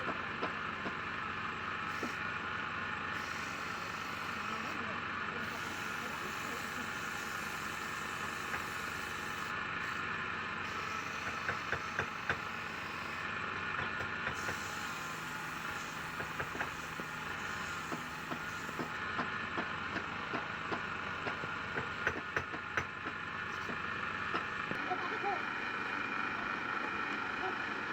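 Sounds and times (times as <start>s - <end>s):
wood lathe running: 0.0s - 27.9s.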